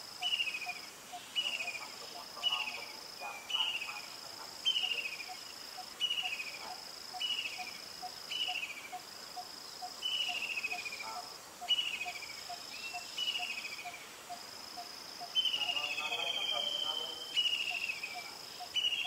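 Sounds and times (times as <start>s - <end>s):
insect high-pitched whine: 0.0s - 19.0s
insect soft ticking: 0.0s - 19.0s.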